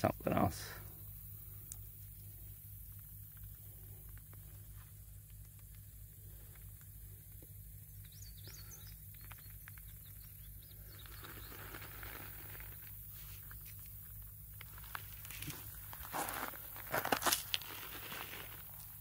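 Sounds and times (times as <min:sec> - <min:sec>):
pebbles clicking on gravel: 0:01.6 - 0:19.0.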